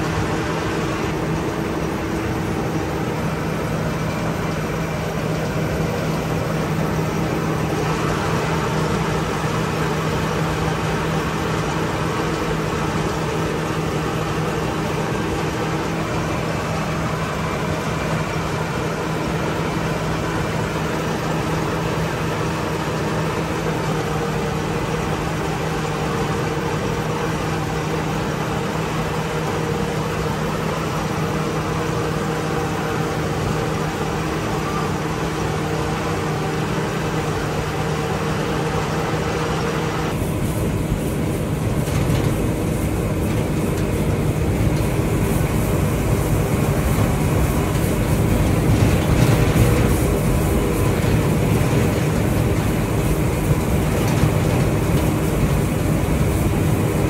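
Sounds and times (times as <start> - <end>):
harvester engine running: 0.0 - 57.0.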